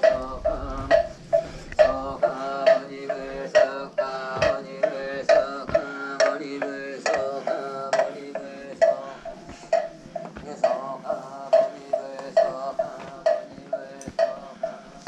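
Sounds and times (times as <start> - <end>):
person chanting: 0.0 - 15.0
wooden block struck steadily: 0.0 - 15.0.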